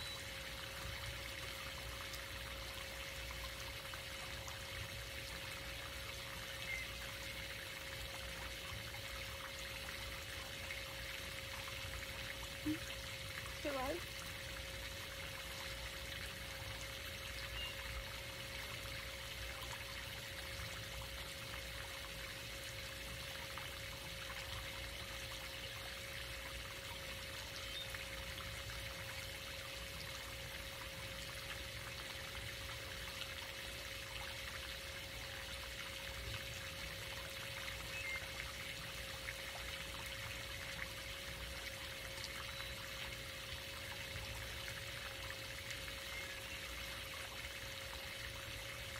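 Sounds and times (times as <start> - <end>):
faint steady tone: 0.0 - 48.9.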